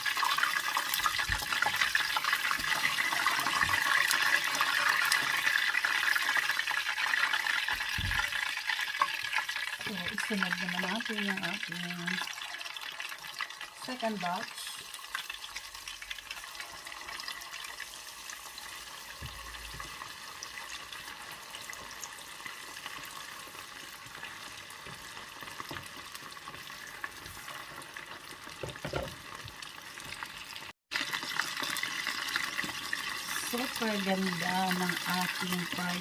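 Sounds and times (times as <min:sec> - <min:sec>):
chicken wings frying in oil: 0:00.0 - 0:36.0.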